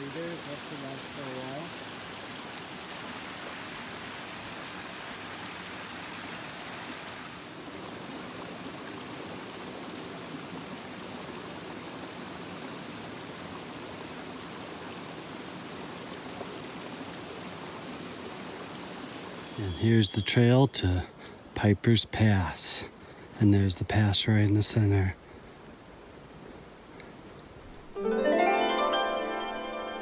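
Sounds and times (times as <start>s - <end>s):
creek running over rocks: 0.0s - 29.1s.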